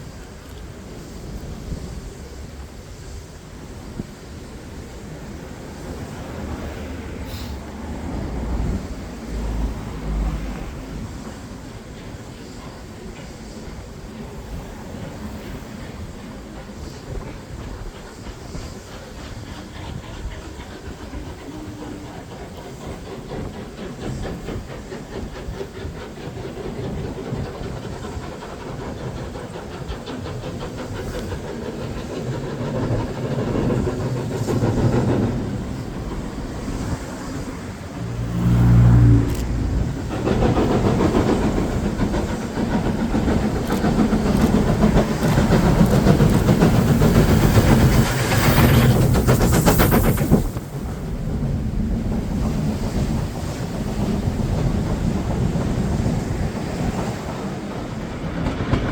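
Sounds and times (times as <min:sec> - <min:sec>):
steam locomotive exhaust beats: 0:00.0 - 0:58.9.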